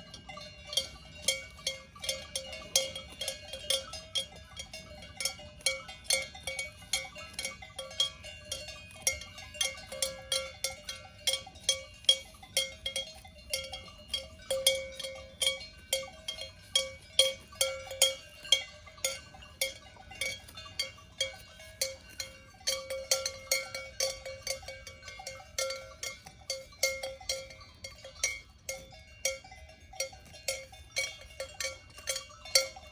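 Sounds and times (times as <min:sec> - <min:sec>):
cowbells clanking: 0:00.0 - 0:32.9.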